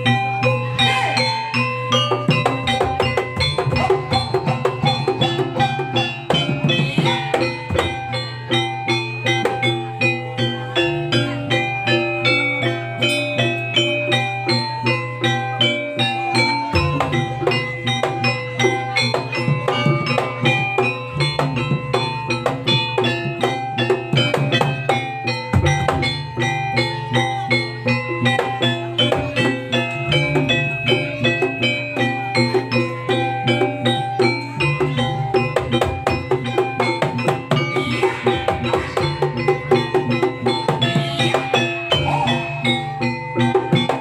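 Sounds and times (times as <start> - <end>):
drumming in fast rhythm: 0.0 - 44.0
ringing metallophone notes: 0.0 - 44.0.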